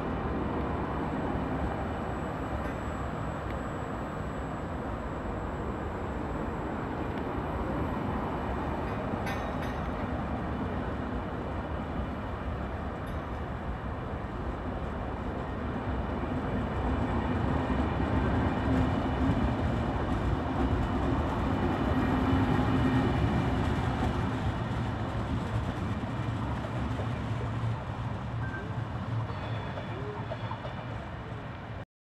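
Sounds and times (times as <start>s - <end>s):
train rumbling past: 0.0s - 31.8s.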